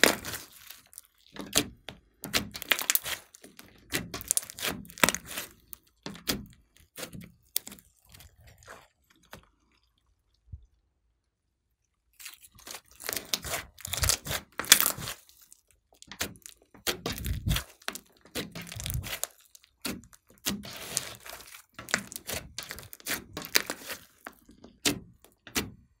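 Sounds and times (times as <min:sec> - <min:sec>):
slime crackling and popping: 0:00.0 - 0:09.4, 0:12.2 - 0:25.7.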